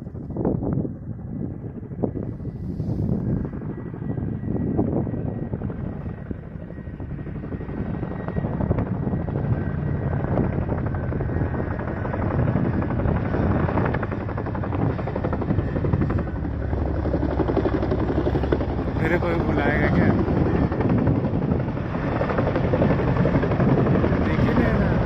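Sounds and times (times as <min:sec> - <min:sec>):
faint high turbine whine: 0:00.0 - 0:25.0
helicopter rotor blades beating: 0:00.0 - 0:25.0.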